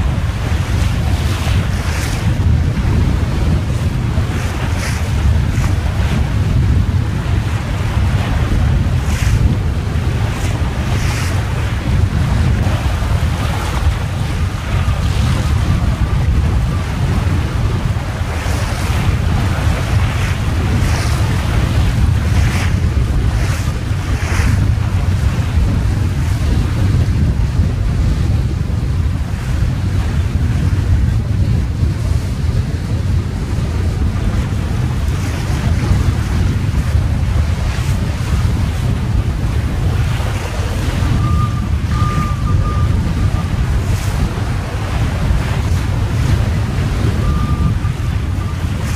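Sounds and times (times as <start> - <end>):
water slapping against hull: 0.0 - 48.9
wind buffeting microphone: 0.0 - 48.9.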